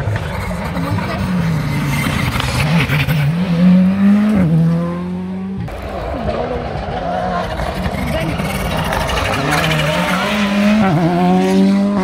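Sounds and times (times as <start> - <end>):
rally car engine revving past: 1.3 - 12.0.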